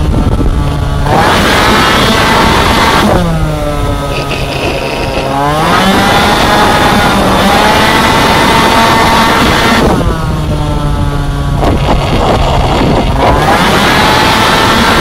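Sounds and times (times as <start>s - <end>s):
two-stroke scooter engine revving: 0.0s - 15.0s.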